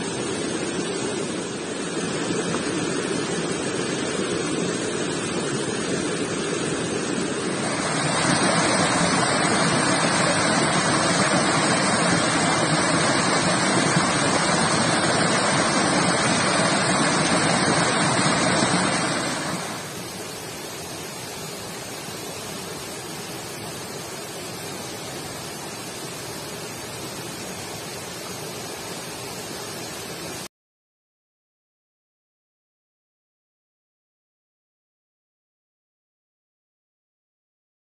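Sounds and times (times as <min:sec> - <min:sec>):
stream water rushing: 0:00.0 - 0:30.5.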